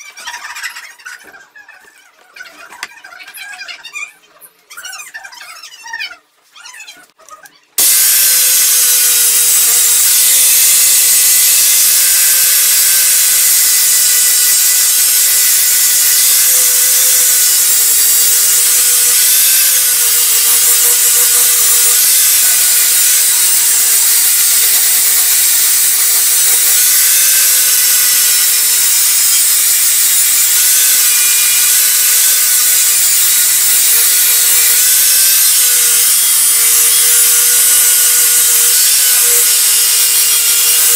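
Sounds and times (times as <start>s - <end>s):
angle grinder grinding steel: 7.8s - 40.9s.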